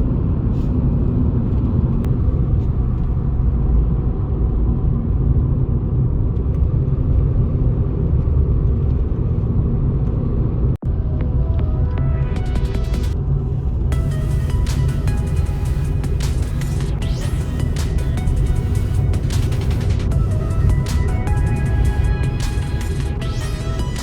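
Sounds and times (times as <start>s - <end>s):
faint engine hum: 0.0s - 24.0s
road vehicle rumble: 0.0s - 24.0s.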